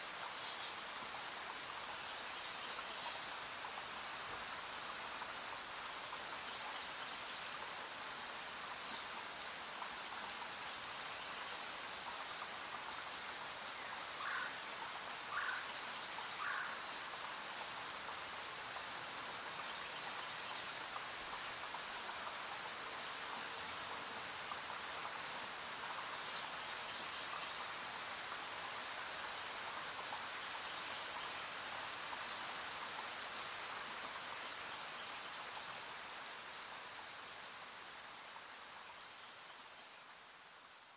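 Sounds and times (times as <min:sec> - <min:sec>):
rain-like hiss: 0:00.0 - 0:40.9.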